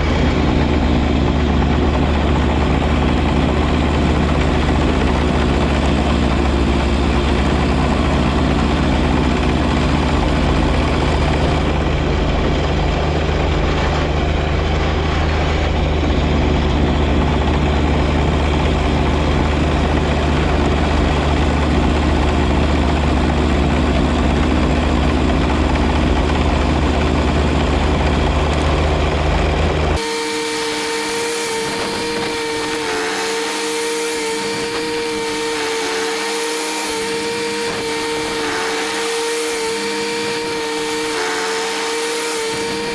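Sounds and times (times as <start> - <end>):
high-pitched whine: 0.0 - 42.9
tractor diesel engine running: 0.0 - 42.9.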